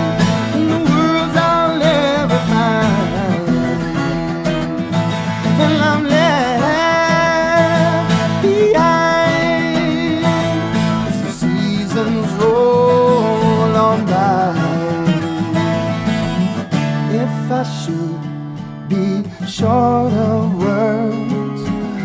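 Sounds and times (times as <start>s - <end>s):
acoustic guitar song: 0.0s - 22.0s.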